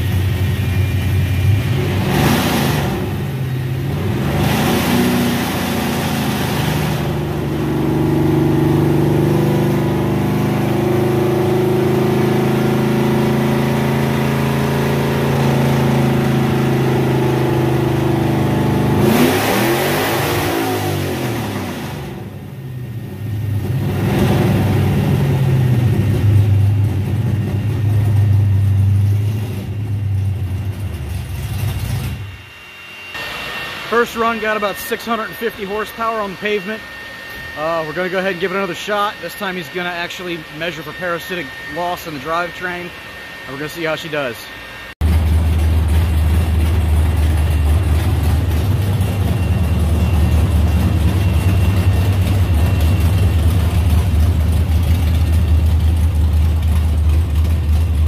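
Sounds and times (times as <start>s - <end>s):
v eight engine running under load: 0.0s - 58.0s.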